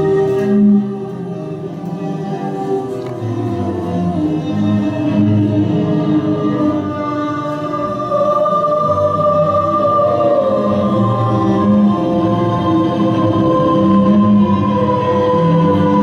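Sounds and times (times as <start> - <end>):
slow music of held notes: 0.0 - 16.0.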